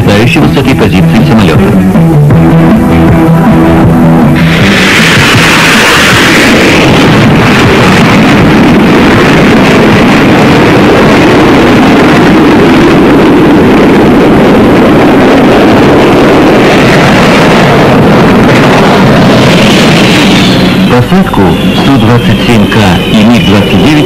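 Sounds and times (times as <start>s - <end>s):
jet engines at full thrust: 0.0s - 24.0s.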